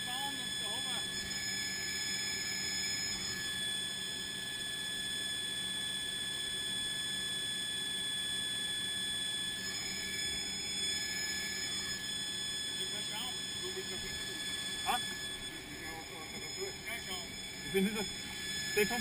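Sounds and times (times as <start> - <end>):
faint wavering tone: 0.0 - 19.0
high mechanical whine: 0.0 - 19.0.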